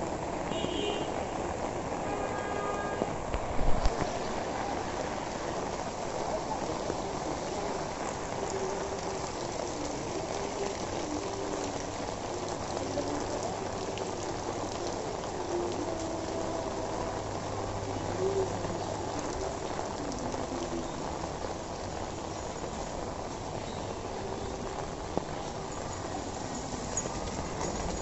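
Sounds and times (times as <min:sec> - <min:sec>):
rain on pavement: 0:00.0 - 0:28.0.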